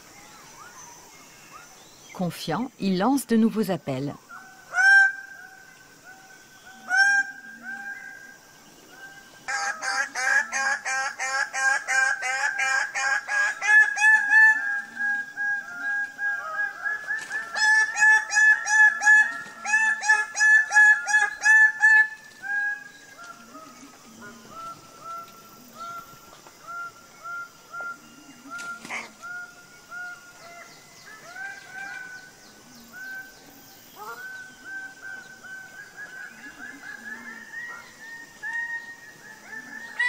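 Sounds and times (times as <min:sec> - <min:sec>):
bird calling: 0:00.0 - 0:40.0.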